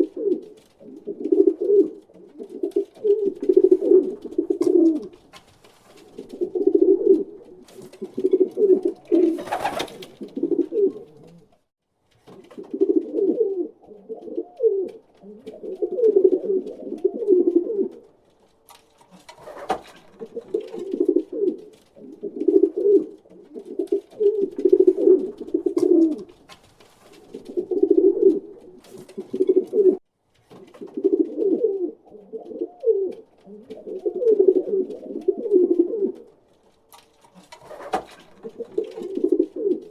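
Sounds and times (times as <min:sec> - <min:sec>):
pigeons cooing: 0:00.0 - 0:05.3, 0:06.0 - 0:11.6, 0:12.6 - 0:18.1, 0:19.1 - 0:26.4, 0:27.2 - 0:30.0, 0:30.8 - 0:36.4, 0:37.4 - 0:39.9.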